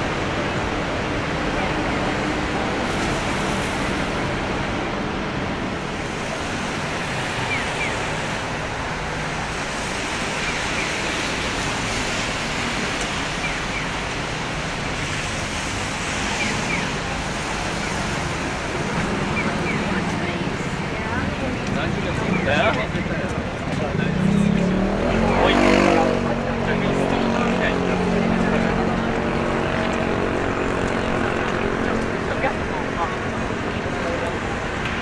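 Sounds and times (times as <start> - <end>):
rain hissing on street: 0.0 - 35.0
traffic noise: 0.0 - 35.0.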